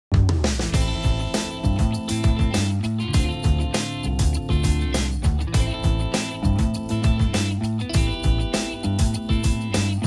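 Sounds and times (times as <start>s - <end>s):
background music with drum beat: 0.1s - 10.0s.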